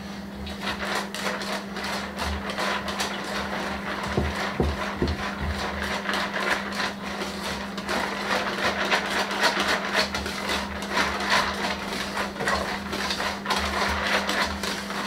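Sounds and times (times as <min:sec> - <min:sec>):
whisk scraping metal bowl: 0:00.0 - 0:15.0.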